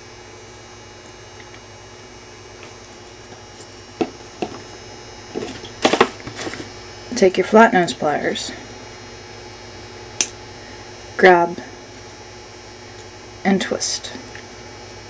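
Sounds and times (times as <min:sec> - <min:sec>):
low mains hum: 0:00.0 - 0:15.0.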